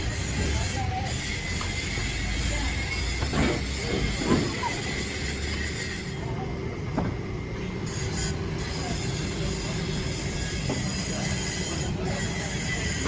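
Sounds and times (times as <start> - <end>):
thin high squeal: 0.0 - 6.4, 7.8 - 13.0
rumbling mechanical noise: 0.0 - 13.0.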